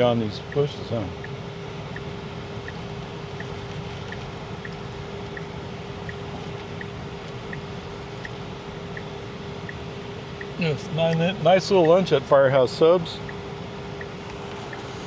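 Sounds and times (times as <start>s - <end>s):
turn signal ticking: 0.0s - 12.2s, 13.2s - 15.0s
car cabin road noise: 0.0s - 13.1s, 13.8s - 15.0s.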